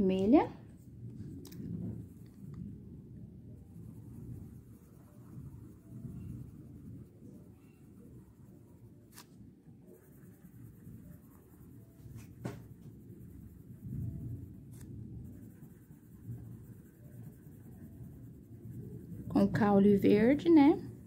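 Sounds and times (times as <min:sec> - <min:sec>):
colouring strokes on paper: 0:00.0 - 0:21.0.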